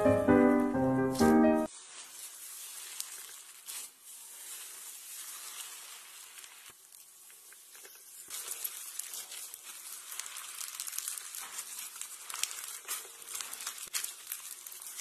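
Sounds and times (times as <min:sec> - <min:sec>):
slime crackling when kneaded: 0:00.6 - 0:15.0.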